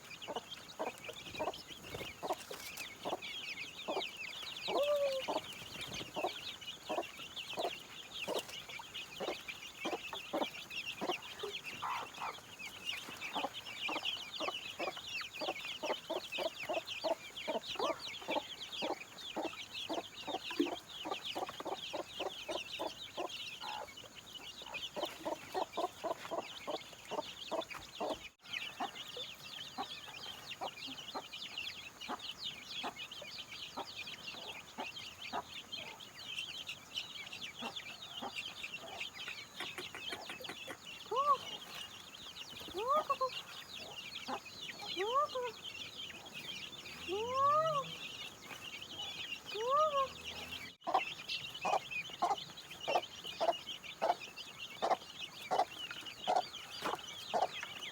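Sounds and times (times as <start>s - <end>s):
chickens clucking: 0.0s - 57.9s
dense high-pitched chirping: 0.0s - 57.9s.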